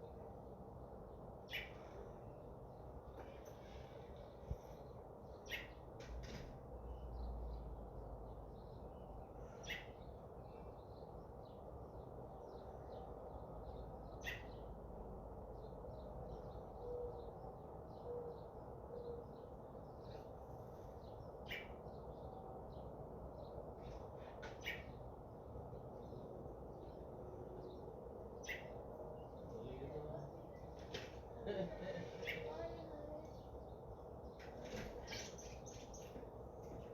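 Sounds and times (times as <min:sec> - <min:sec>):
low background hum: 0:00.0 - 0:36.9
small birds chirping: 0:01.0 - 0:36.9.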